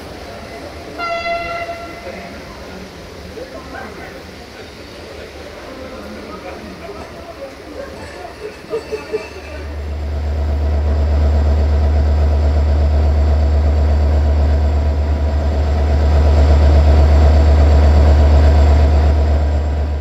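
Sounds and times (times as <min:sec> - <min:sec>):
locomotive diesel engine rumbling: 0:00.0 - 0:20.0.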